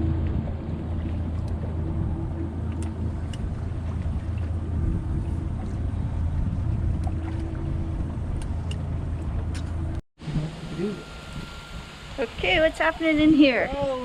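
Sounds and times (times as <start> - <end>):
boat engine humming: 0.0 - 14.0
water against hull: 0.0 - 14.0.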